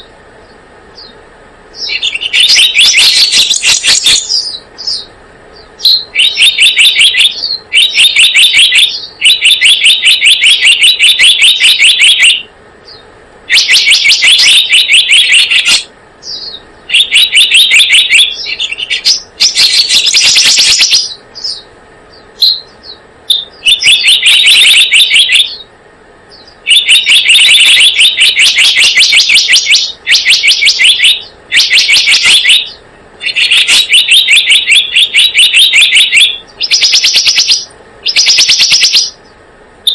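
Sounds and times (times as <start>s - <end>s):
bird pulsed trills: 0.0s - 25.7s, 26.3s - 39.3s.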